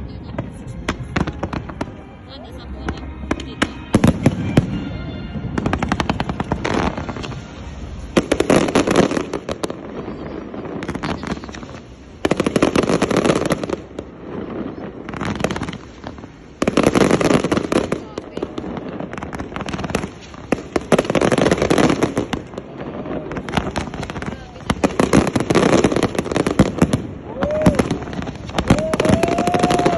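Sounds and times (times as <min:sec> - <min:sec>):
fireworks crackling pops: 0:00.0 - 0:29.9.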